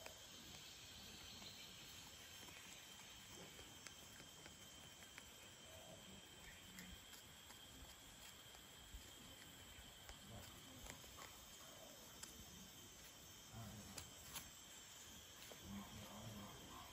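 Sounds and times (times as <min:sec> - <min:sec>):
high insect drone: 0:00.0 - 0:16.9.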